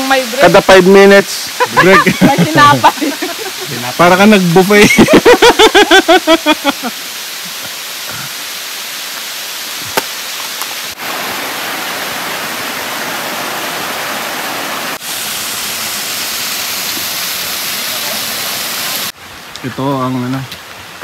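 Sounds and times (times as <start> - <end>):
creek water flowing: 0.0 - 21.0.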